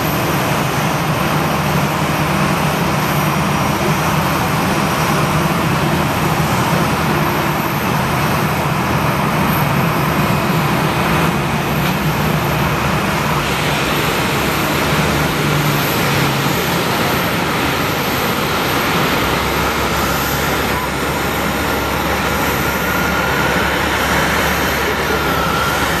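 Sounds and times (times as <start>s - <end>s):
faint engine whine: 0.0s - 26.0s
jet engines idling: 0.0s - 26.0s.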